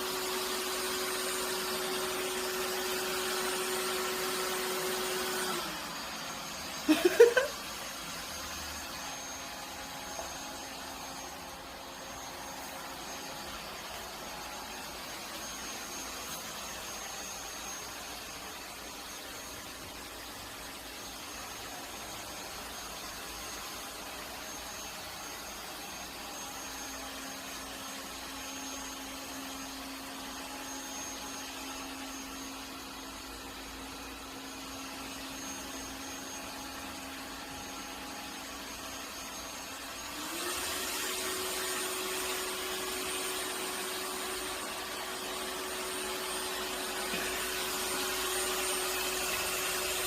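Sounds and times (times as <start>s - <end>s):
robot vacuum cleaner motor hum: 0.0s - 50.0s.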